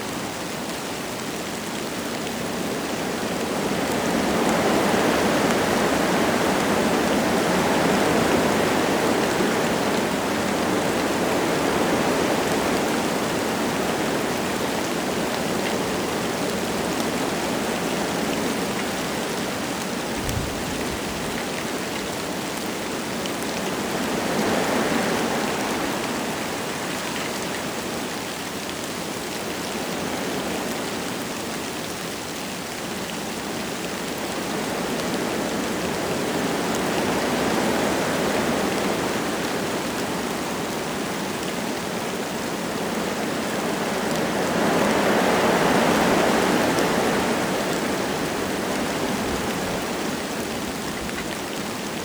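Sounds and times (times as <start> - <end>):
wind rushing through trees: 0.0 - 32.6, 33.4 - 52.0
light rain falling: 0.0 - 52.0.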